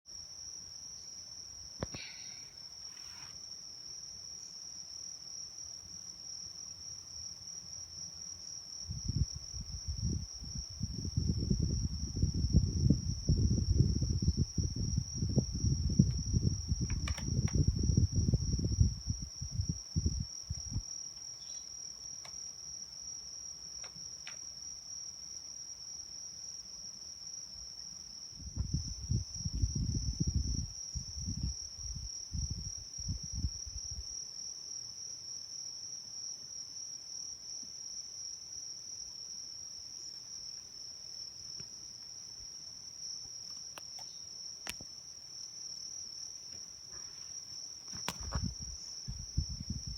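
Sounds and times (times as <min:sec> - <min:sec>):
high-pitched insect trill: 0:00.1 - 0:49.9.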